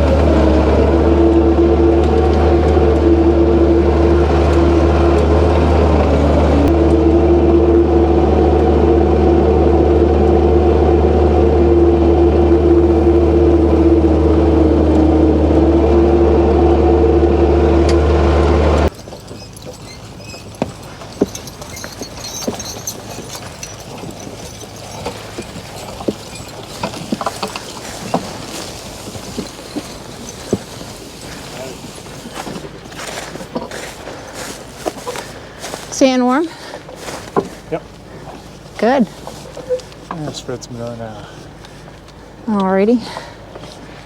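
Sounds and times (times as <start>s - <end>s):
engine running with whine: 0.0s - 44.0s.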